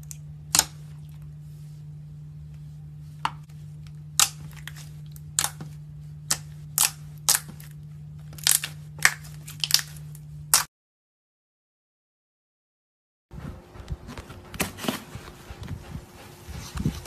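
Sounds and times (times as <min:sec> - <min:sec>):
steady low hum: 0:00.0 - 0:10.7, 0:13.3 - 0:17.0.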